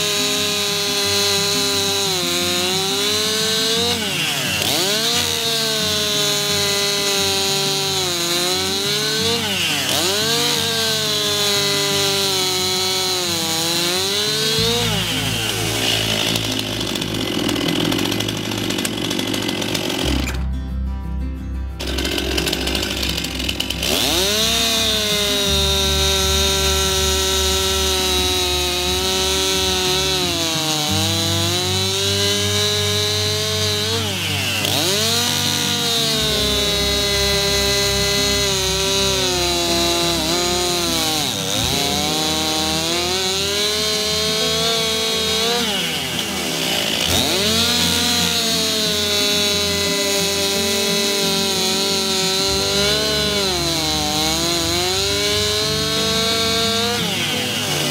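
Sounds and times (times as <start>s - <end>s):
chainsaw cutting log: 0.0s - 20.5s, 21.8s - 57.9s.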